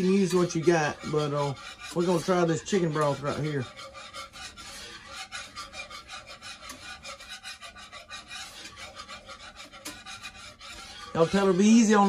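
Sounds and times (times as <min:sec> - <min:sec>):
utensil scraping a skillet: 0:00.0 - 0:12.0.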